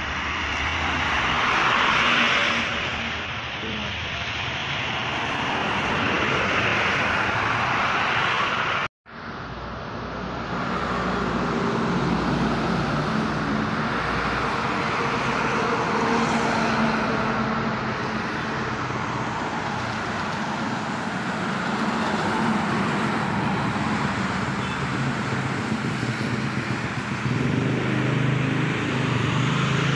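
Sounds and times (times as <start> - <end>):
highway traffic passing: 0.0 - 29.9.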